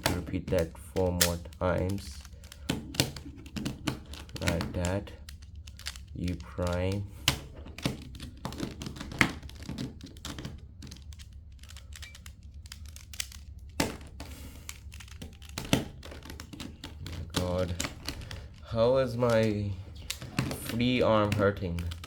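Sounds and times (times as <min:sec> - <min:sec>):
puzzle cube clicking: 0:00.0 - 0:22.0.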